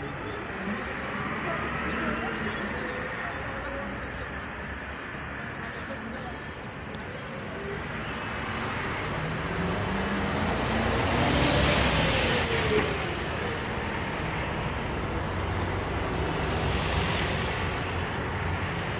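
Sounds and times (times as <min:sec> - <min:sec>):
diesel coach engine accelerating: 0:00.0 - 0:18.9
traffic noise: 0:00.0 - 0:18.9.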